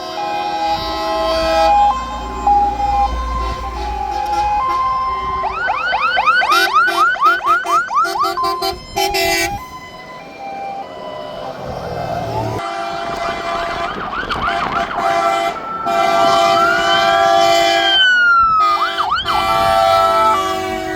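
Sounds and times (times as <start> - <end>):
fire engine sirens: 0.0 - 20.9.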